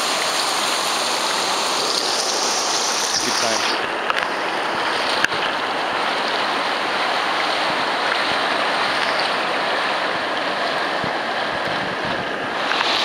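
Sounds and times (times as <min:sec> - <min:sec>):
water rushing over boulders: 0:00.0 - 0:13.0.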